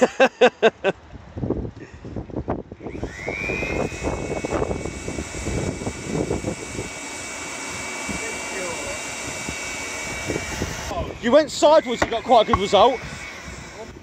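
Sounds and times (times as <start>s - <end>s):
air blower whining: 2.7s - 14.0s.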